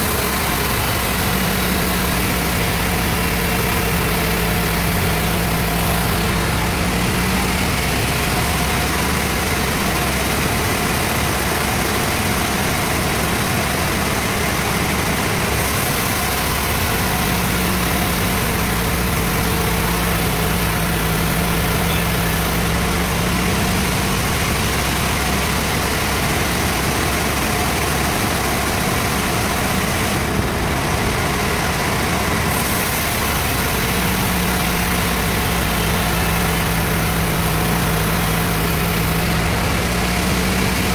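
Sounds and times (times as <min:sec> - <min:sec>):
bandsaw machine running: 0:00.0 - 0:40.9.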